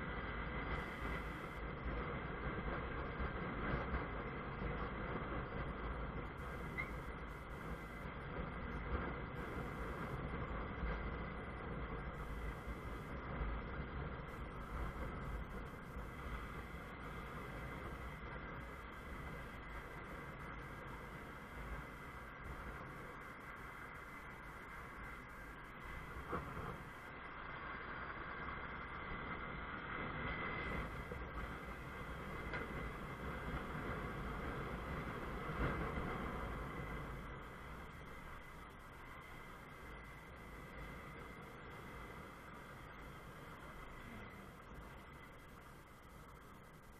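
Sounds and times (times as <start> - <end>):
road noise: 0.0 - 46.9
wind rumble: 0.0 - 46.9.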